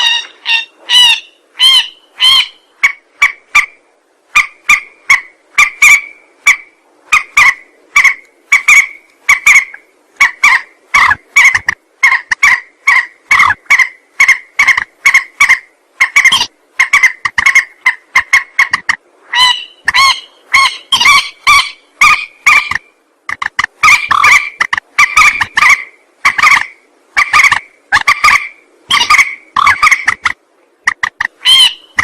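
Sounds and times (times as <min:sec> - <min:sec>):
bird calling in nasal notes: 0:00.0 - 0:32.0.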